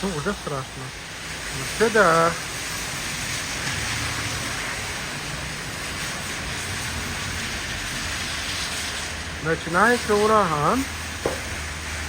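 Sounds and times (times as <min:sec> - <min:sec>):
heavy rain hissing: 0:00.0 - 0:12.0
traffic on wet road: 0:00.0 - 0:12.0.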